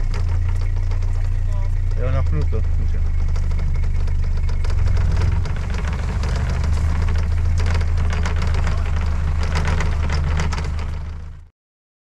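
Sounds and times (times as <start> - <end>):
vehicle engine running: 0.0 - 11.5
wooden trailer rattling: 0.0 - 11.5.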